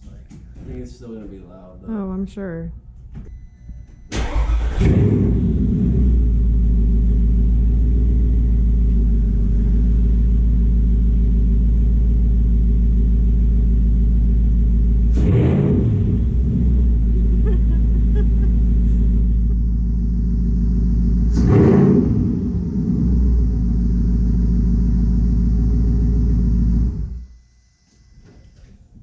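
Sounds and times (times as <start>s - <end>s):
car engine starting and idling: 4.1s - 27.4s.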